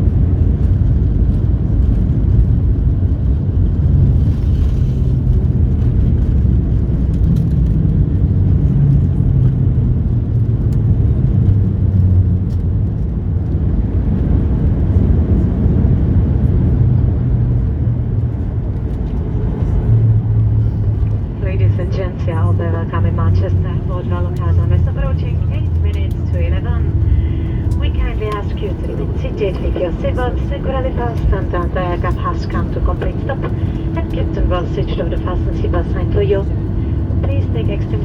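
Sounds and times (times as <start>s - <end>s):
jet airliner cabin rumble: 0.0s - 38.0s.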